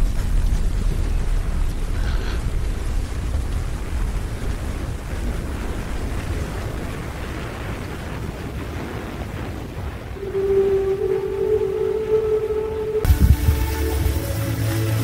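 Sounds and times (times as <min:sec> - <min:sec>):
deep rumble: 0:00.0 - 0:15.0
wind hiss: 0:00.0 - 0:15.0.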